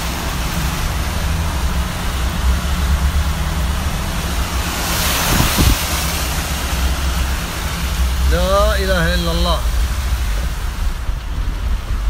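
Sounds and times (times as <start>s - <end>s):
car engine rumble: 0.0s - 12.0s
tyres hissing through water: 0.0s - 12.0s.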